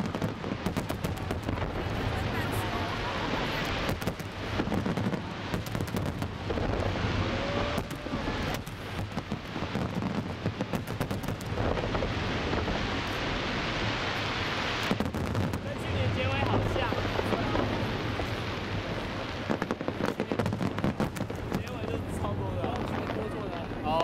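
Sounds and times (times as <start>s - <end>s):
firework cracks and crackles: 0.0s - 24.0s
rumble of firework bursts: 0.0s - 24.0s.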